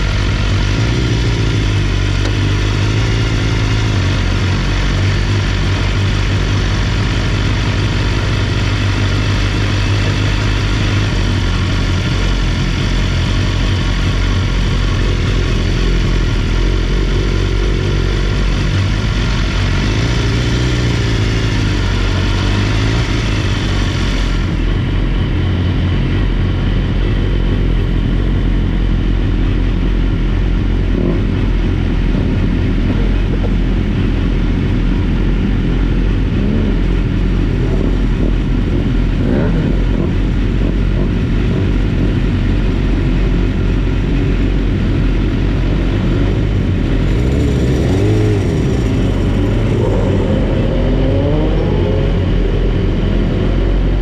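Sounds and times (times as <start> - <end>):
motorcycle engine idling: 0.0 - 51.6.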